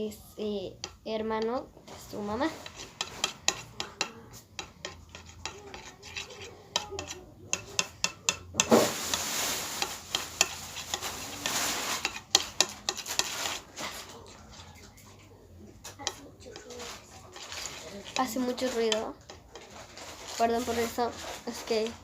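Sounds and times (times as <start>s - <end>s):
scratchy noise: 1.9s - 7.9s, 8.6s - 22.0s.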